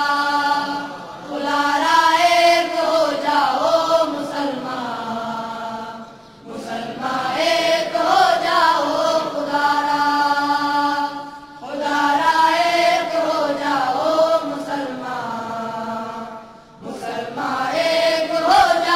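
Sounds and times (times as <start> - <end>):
person chanting: 0.0 - 18.9.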